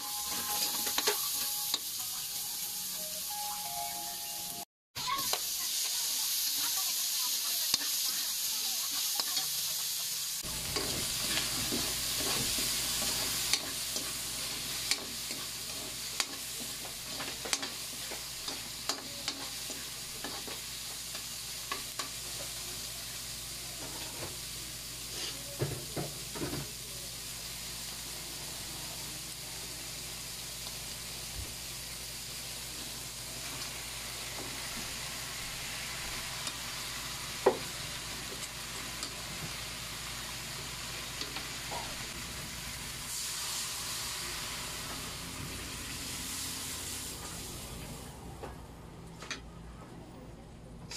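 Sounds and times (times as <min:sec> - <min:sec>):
vegetables sizzling in a wok: 0:00.0 - 0:48.4.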